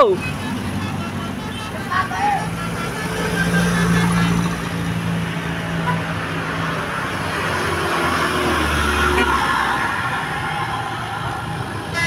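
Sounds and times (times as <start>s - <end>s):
heavy vehicle engines in traffic: 0.0s - 12.0s.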